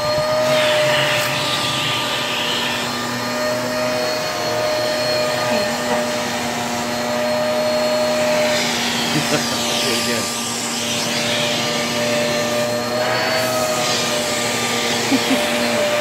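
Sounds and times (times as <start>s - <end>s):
handheld vacuum cleaner running: 0.0s - 16.0s.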